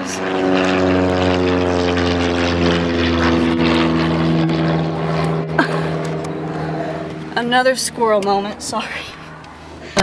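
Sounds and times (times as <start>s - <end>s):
propeller plane flying overhead: 0.0s - 10.0s.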